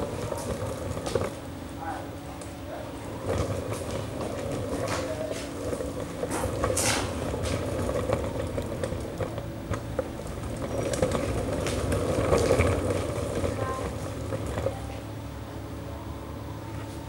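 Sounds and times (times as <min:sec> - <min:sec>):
dolly wheels rumbling on track: 0:00.0 - 0:17.0.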